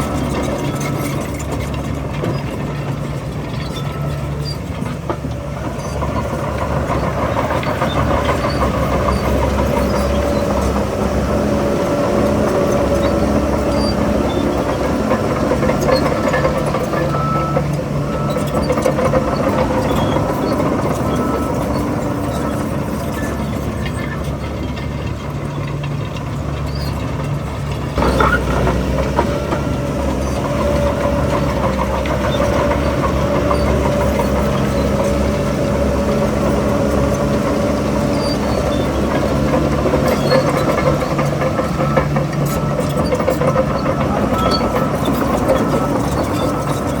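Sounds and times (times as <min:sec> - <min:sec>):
heavy diesel engine working: 0:00.0 - 0:47.0.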